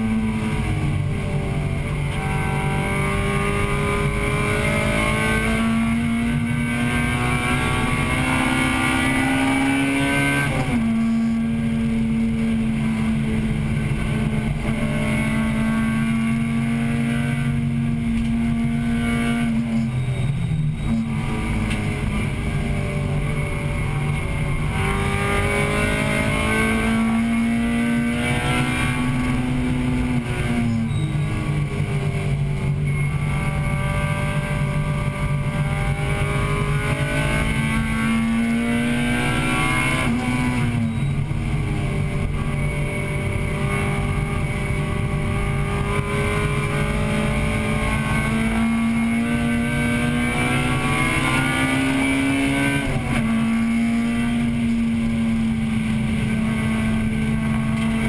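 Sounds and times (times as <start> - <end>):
car engine at high revs: 0.0 - 58.0
road and wind noise: 0.0 - 58.0.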